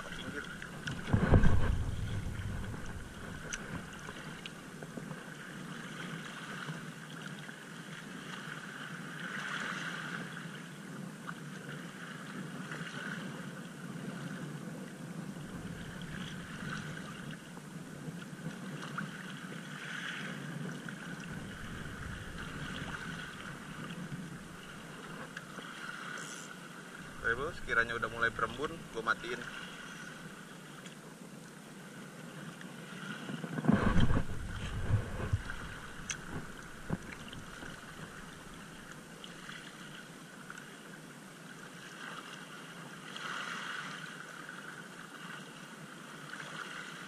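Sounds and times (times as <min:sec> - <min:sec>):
choppy sea water washing: 0:00.0 - 0:47.0
wind: 0:00.0 - 0:47.0.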